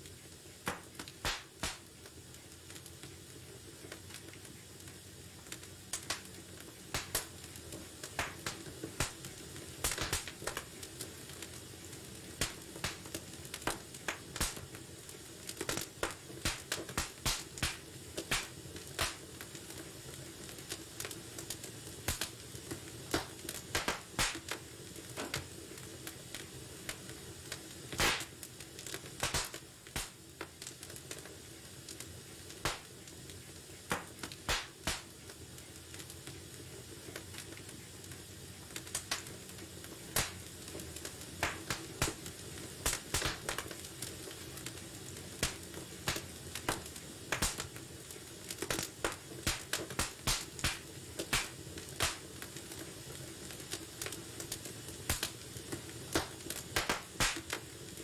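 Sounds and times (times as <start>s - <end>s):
low steady hiss: 0.0s - 58.0s
wood fire crackling and popping: 0.0s - 58.0s.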